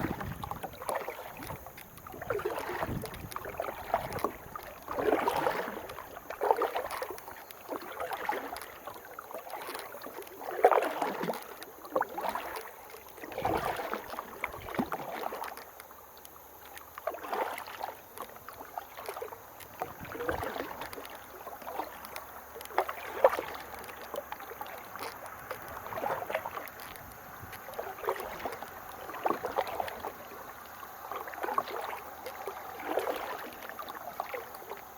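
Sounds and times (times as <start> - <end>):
paddle splashing in water: 0.0 - 34.9.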